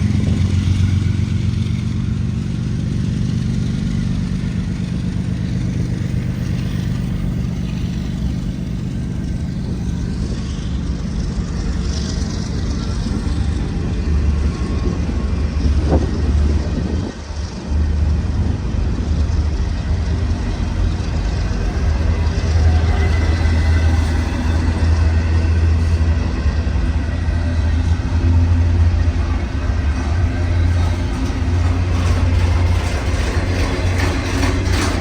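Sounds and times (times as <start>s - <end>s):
diesel locomotive drone: 0.0s - 35.0s
rumble of train cars: 0.0s - 35.0s.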